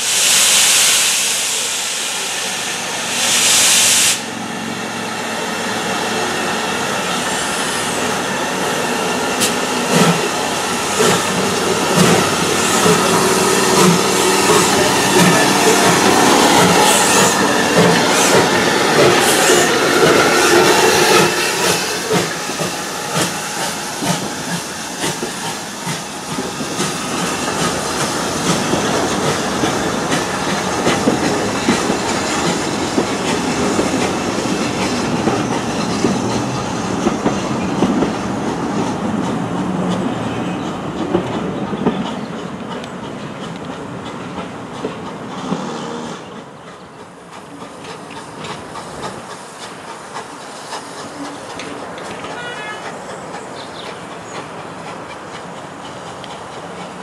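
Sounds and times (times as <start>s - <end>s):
steam locomotive moving off: 0.0s - 57.0s.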